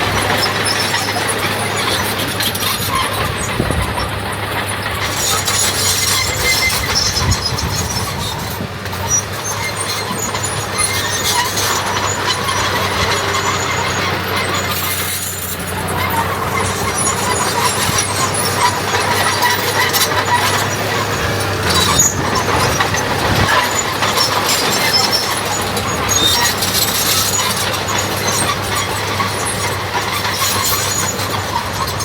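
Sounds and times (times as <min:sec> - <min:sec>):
diesel engine hum: 0:00.0 - 0:32.0
metallic rattling and squealing: 0:00.0 - 0:32.0.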